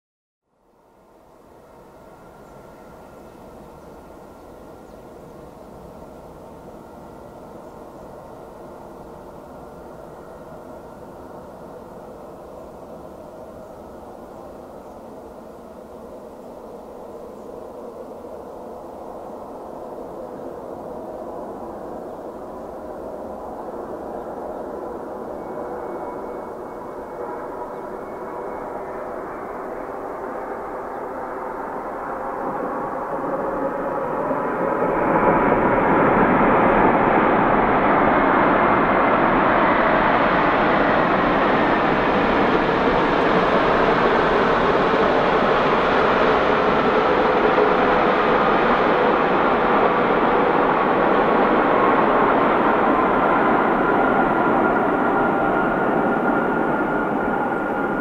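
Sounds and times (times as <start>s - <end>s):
jet engine rumble: 1.1s - 58.0s.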